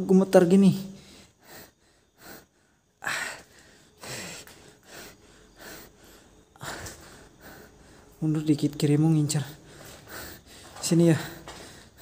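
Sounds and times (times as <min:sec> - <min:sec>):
man breathing hard: 0:00.9 - 0:08.2, 0:09.5 - 0:12.0.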